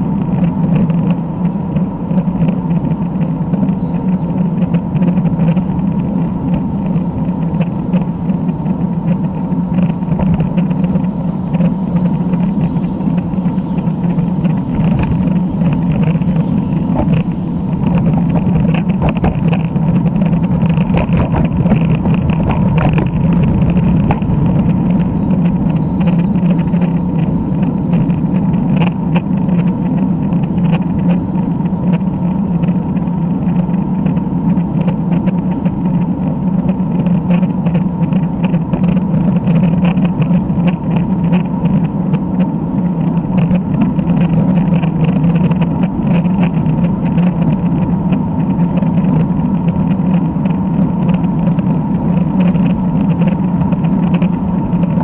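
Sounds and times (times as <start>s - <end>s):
low hum: 0.0s - 55.0s
road bike being ridden: 0.0s - 55.0s.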